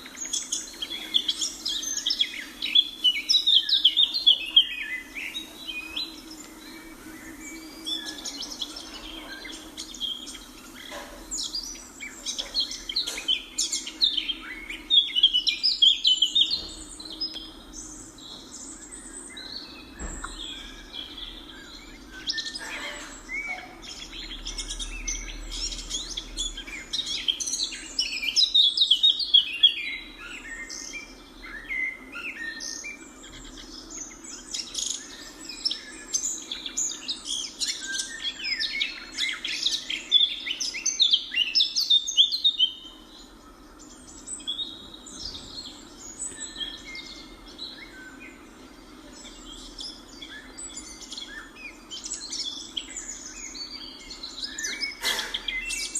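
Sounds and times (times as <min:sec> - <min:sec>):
birds chirping in chorus: 0:00.0 - 0:55.9.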